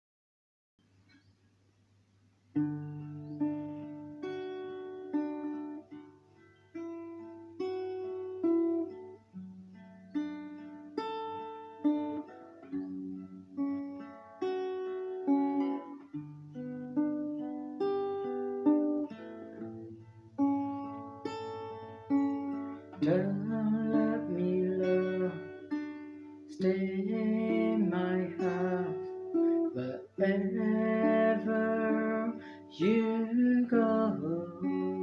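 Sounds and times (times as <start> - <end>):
plucked guitar: 2.5 - 35.0.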